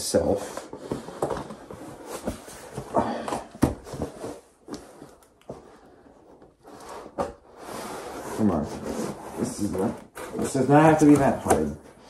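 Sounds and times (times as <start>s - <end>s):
cardboard rustling: 0.2s - 12.0s.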